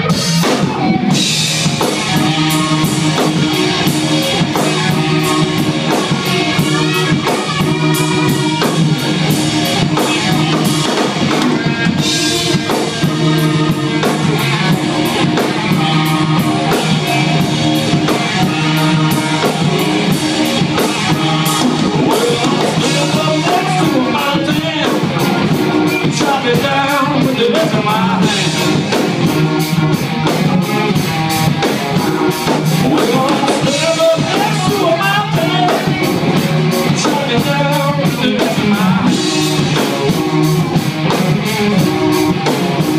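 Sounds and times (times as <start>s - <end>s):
bass line: 0.0s - 42.9s
drum kit beat: 0.0s - 42.9s
electric guitar: 0.0s - 42.9s.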